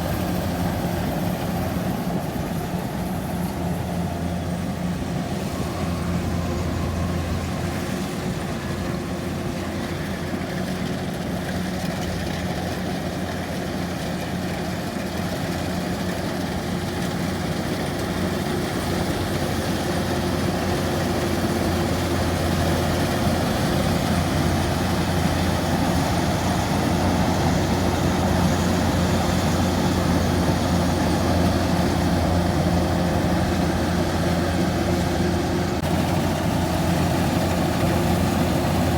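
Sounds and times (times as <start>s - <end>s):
farm machine engine humming: 0.0s - 38.9s.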